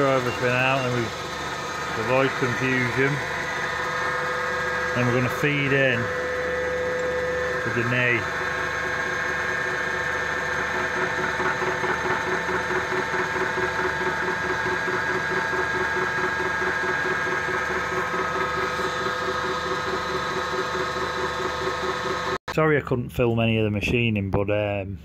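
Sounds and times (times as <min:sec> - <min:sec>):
milling machine cutting steel: 0:00.0 - 0:22.4.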